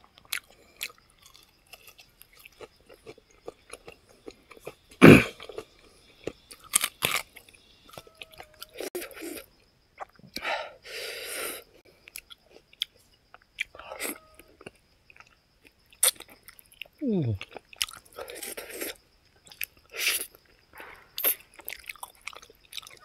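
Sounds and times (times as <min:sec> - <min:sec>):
man chewing with wet smacks: 0:00.1 - 0:09.4, 0:12.0 - 0:20.6, 0:21.2 - 0:23.0.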